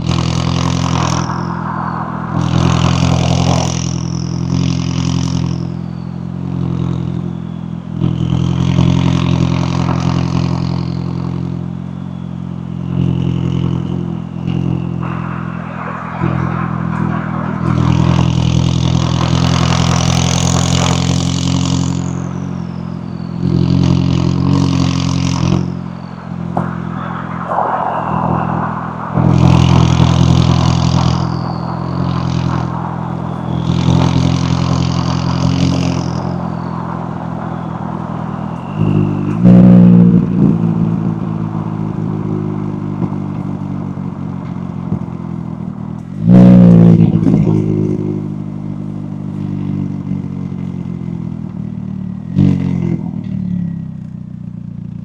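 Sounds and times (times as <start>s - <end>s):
sudden loud engine rev: 0.0s - 54.1s
car exhaust while driving: 0.0s - 55.0s.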